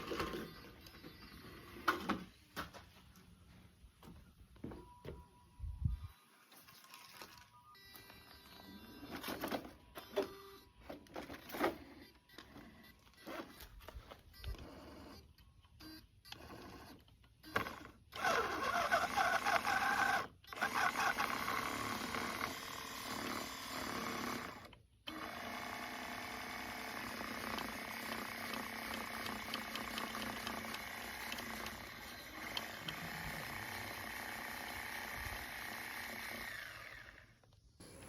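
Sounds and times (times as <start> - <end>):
toy truck electric motor whirring: 0.0 - 2.2, 7.8 - 38.0.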